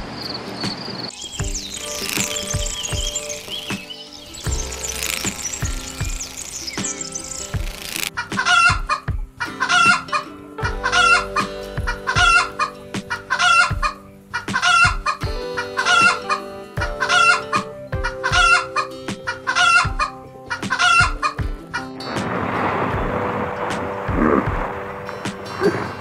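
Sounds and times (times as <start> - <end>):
soft background music: 0.3 - 26.0
chickens clucking: 1.2 - 22.6.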